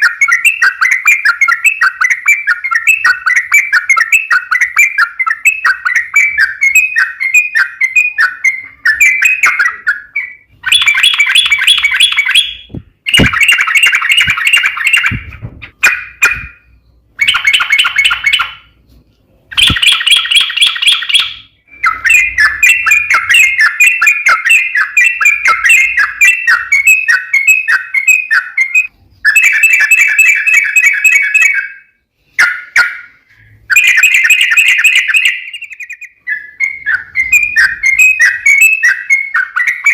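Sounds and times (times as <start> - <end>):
bird chattering song: 0.0 - 18.8, 19.5 - 39.9.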